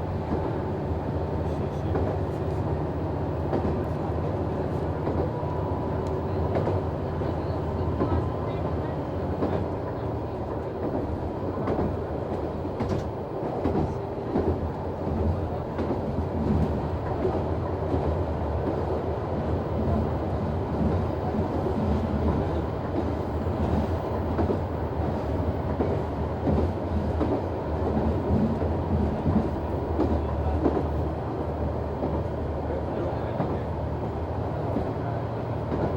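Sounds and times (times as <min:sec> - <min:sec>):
diesel railcar engine drone: 0:00.0 - 0:35.9.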